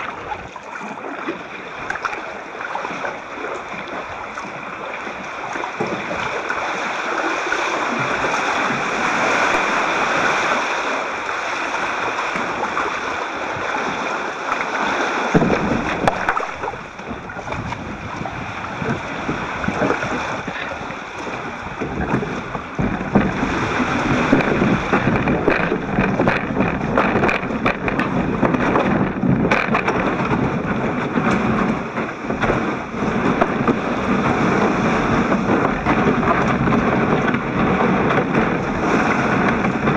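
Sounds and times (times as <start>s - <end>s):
kayak knocking on rocks: 0.0s - 39.9s
muffled water sloshing: 0.0s - 39.9s.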